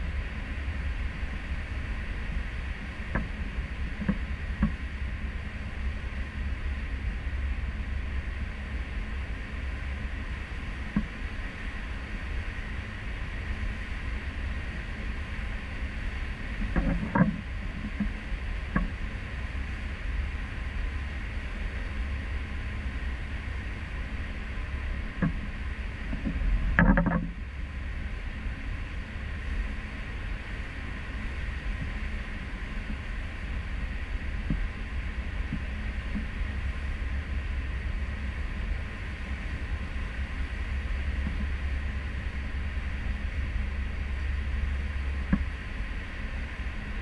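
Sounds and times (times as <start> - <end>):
ship engine and propeller drone: 0.0 - 47.0.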